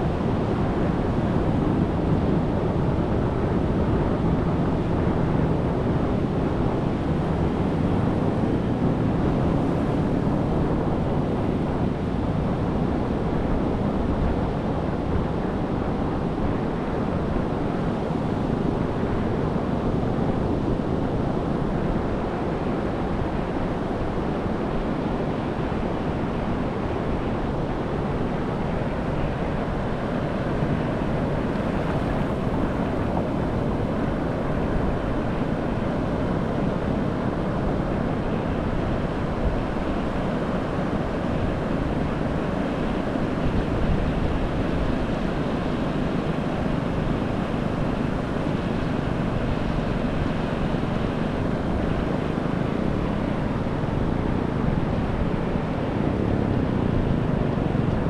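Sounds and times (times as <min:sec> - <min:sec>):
ocean surf washing onto beach: 0:00.0 - 0:58.0
wind on microphone: 0:00.0 - 0:58.0.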